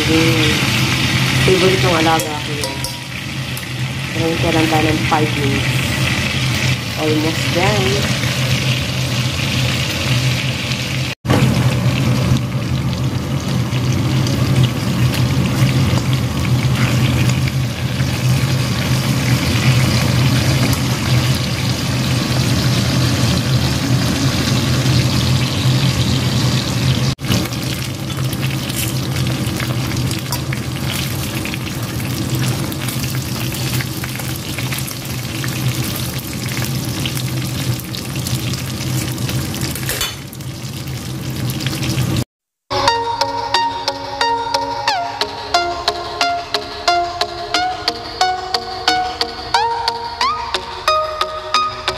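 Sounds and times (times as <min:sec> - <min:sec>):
chicken frying with crackling: 0:00.0 - 0:42.3.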